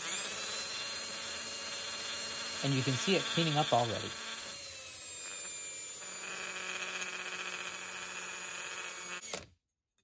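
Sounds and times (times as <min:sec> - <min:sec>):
cordless drill whining: 0:00.0 - 0:09.6.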